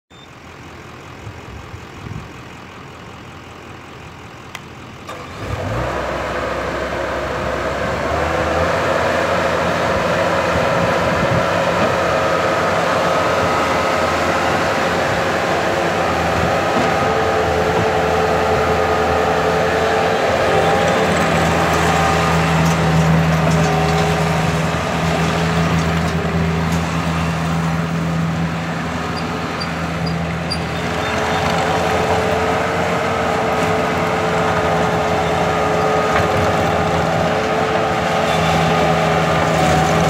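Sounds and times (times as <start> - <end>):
diesel engine revving: 1.2 - 40.0.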